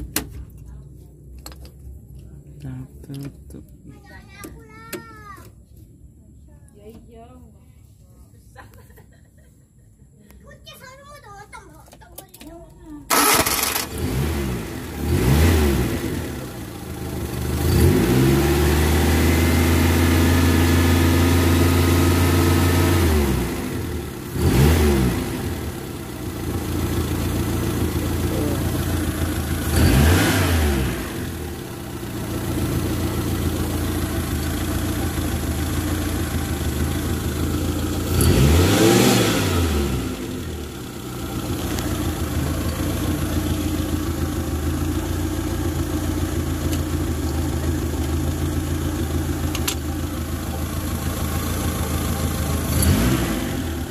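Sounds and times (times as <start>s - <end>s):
car engine idling and revving: 0.0s - 6.2s, 12.4s - 53.9s.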